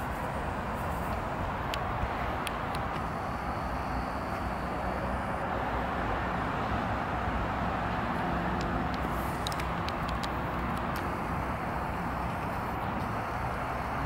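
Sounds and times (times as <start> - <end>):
faint high whine: 0.0 - 7.8, 8.6 - 14.0
outdoor background noise: 0.0 - 14.0.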